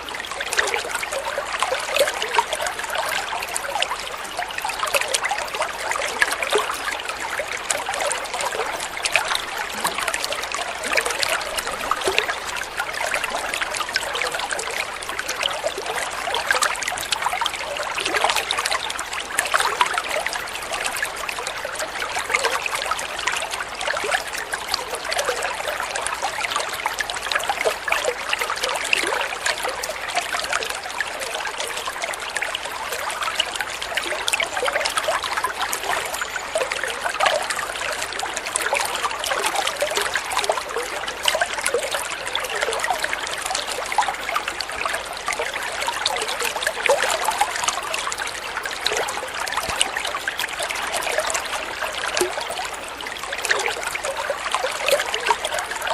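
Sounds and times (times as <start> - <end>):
water trickling over stones: 0.0 - 55.9.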